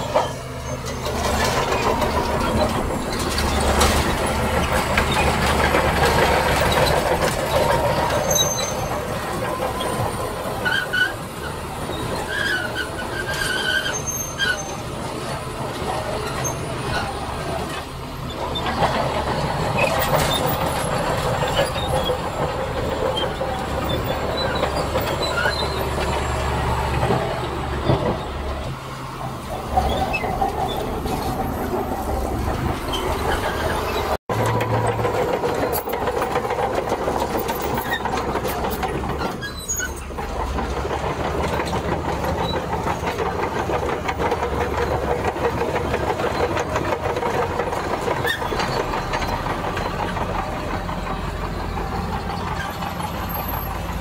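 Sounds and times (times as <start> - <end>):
heavy machinery engine drone: 0.0 - 54.0
steel tracks clanking and rattling: 0.0 - 54.0.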